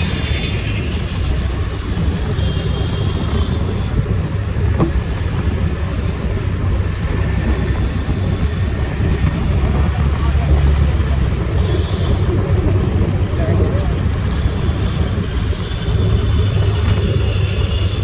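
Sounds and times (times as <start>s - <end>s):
passing traffic: 0.0s - 18.0s
tyre road noise: 0.0s - 18.0s
wind: 0.0s - 18.0s.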